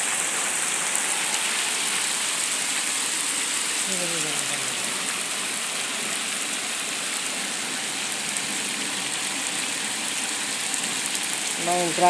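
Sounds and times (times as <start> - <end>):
floodwater running down street: 0.0 - 12.0
torrential rain hissing: 0.0 - 12.0.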